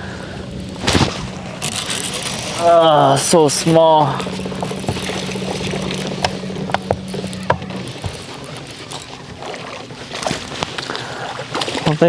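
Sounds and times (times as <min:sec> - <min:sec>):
fishing reel gear whirring: 0:00.0 - 0:12.0.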